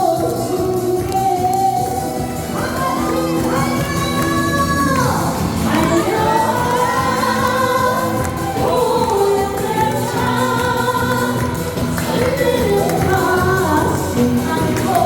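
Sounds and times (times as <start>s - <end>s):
loud backing track: 0.0s - 15.0s
person singing live amplified: 0.0s - 15.0s.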